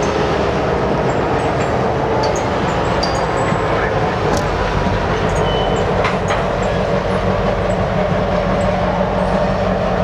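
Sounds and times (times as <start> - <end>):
diesel locomotive running: 0.0 - 10.0
sharp clicks from train wheels: 1.0 - 9.8.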